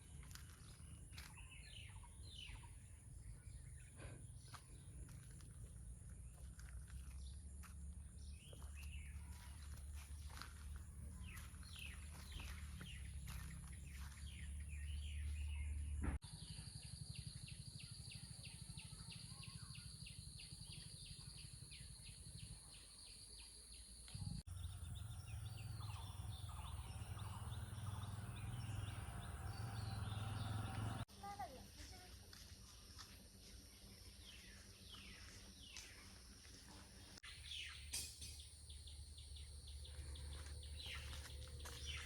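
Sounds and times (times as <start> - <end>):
birds chirping: 0.0 - 16.2, 17.0 - 31.1, 34.1 - 42.0.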